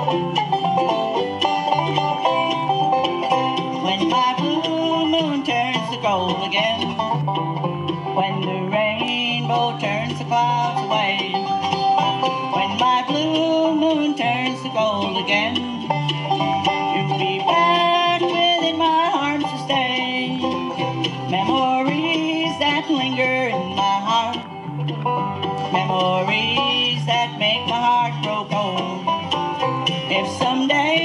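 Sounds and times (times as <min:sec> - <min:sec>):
banjo picking: 0:00.0 - 0:31.0
bluegrass band playing: 0:00.0 - 0:31.0.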